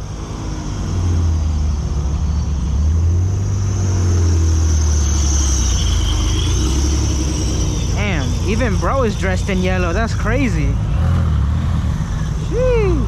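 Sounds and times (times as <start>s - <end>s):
deep car exhaust drone: 0.0s - 13.0s.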